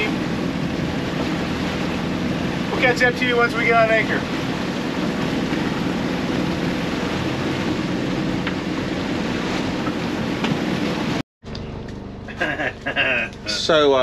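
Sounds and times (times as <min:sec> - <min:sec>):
rushing water: 0:00.0 - 0:11.2
boat engine running: 0:00.0 - 0:14.0
wind: 0:00.0 - 0:14.0.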